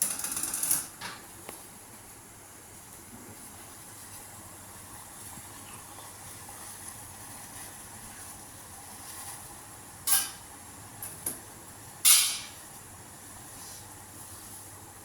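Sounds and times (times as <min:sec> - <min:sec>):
water boiling with hiss: 0:00.0 - 0:15.0.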